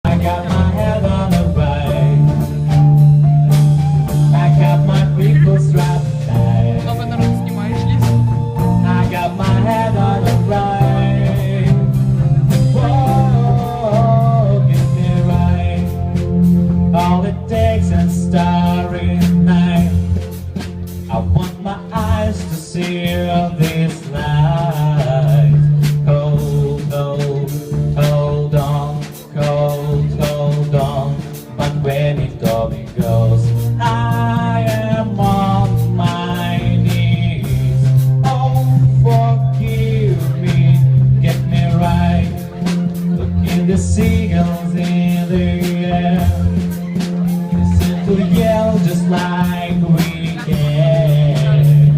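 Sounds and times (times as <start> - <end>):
person singing: 0.0 - 20.2, 21.1 - 51.9
rock band playing: 0.0 - 51.9.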